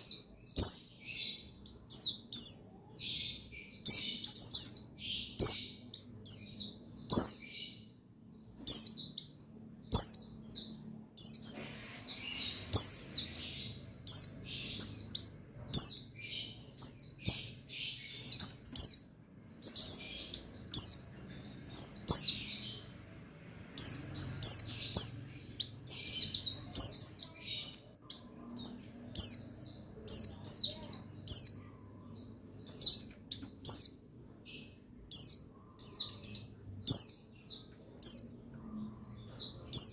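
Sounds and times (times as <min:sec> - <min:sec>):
faint low hum: 0:00.0 - 0:39.9
small birds twittering: 0:00.0 - 0:39.9.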